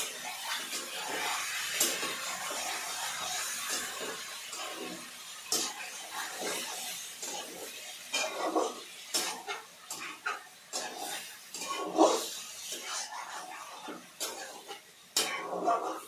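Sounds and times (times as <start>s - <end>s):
chicken sizzling in hot oil: 0.0s - 16.0s
utensil scraping pan: 0.4s - 16.0s.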